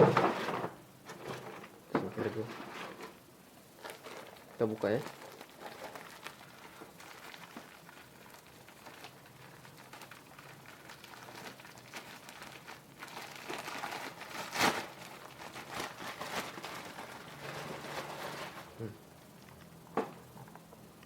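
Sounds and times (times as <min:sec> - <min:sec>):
sharp loud plastic crackle: 0:00.0 - 0:20.3
plastic wrapping crinkling: 0:00.0 - 0:21.0.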